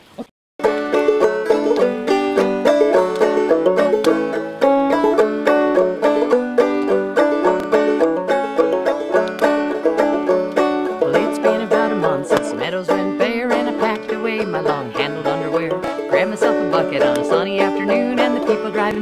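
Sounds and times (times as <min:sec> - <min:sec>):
banjo picking country tune: 0:00.6 - 0:19.0.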